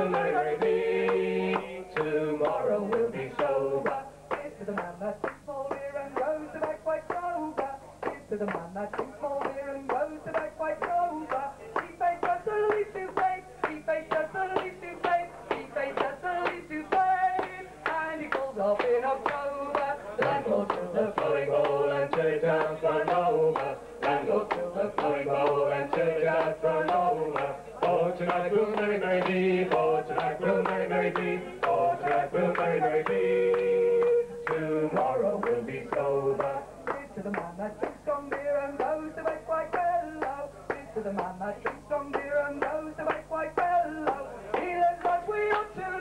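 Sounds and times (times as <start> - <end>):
group singing: 0.0 - 46.0.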